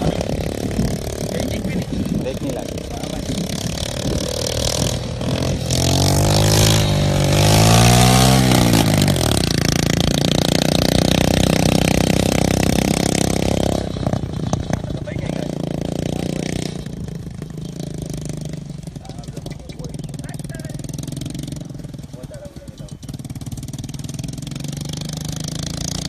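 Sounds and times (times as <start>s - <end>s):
small engine revving: 0.0s - 26.0s.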